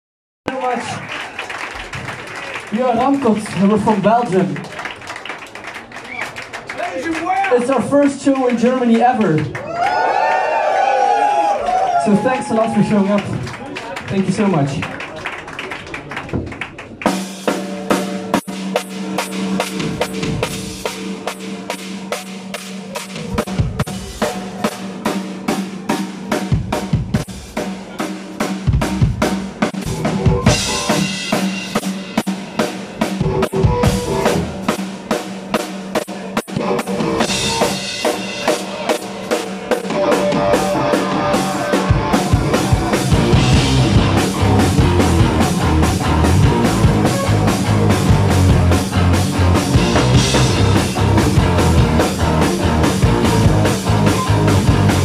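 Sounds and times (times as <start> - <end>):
drum kit beating: 0.5 - 55.0
rock band playing live: 1.6 - 5.3, 10.9 - 14.9, 16.2 - 55.0.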